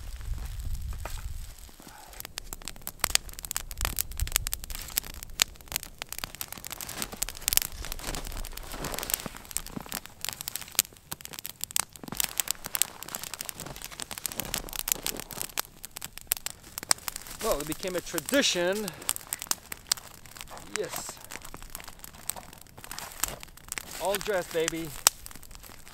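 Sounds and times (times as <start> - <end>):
burning wood snapping and popping: 0.0 - 25.9
flame hissing: 0.0 - 25.9
wood fire crackling: 0.0 - 25.9.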